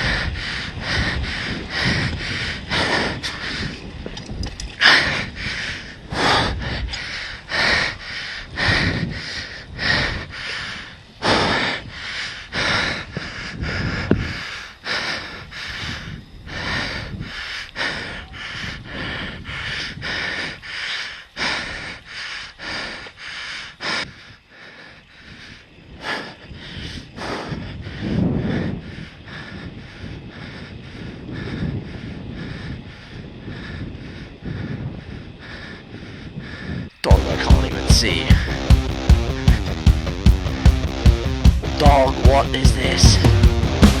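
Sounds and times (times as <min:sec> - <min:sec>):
person breathing hard: 0:00.0 - 0:44.0.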